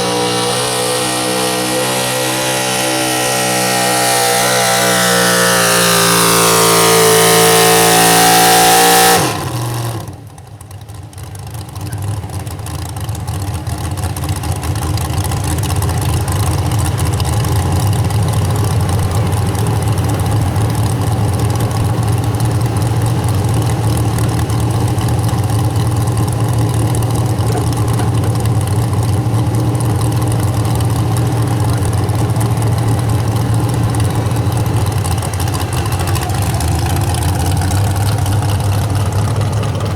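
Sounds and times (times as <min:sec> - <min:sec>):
engine idling: 0:00.0 - 0:39.9
truck engine at full throttle: 0:00.0 - 0:39.9.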